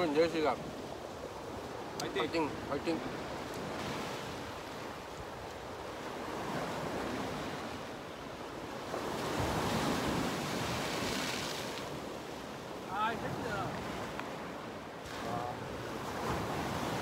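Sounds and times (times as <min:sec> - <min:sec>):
ocean surf over rocks: 0:00.0 - 0:17.0
wind on microphone: 0:00.0 - 0:17.0.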